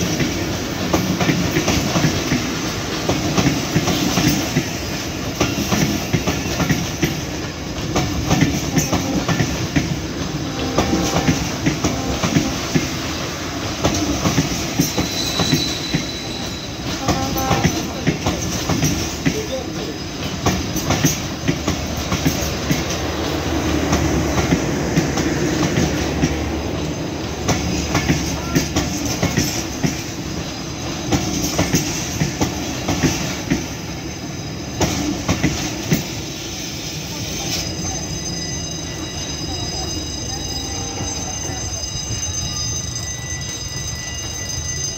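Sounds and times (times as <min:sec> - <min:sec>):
train wheels clattering over rails: 0:00.0 - 0:40.2.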